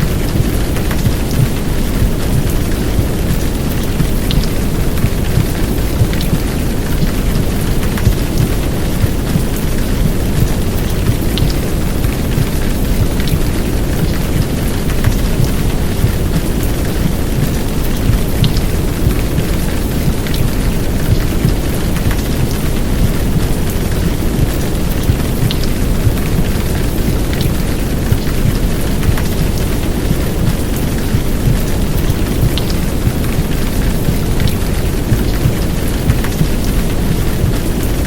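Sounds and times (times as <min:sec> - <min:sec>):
heavy rain downpour: 0:00.0 - 0:38.0
raindrop ticks: 0:00.0 - 0:38.0.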